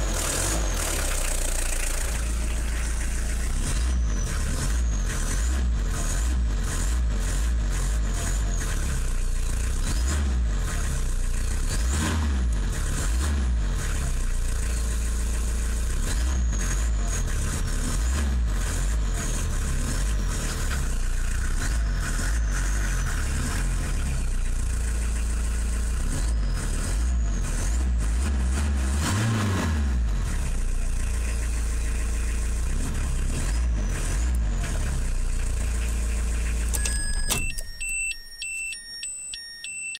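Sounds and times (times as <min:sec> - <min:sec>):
diesel engine running and humming: 0:00.0 - 0:38.4.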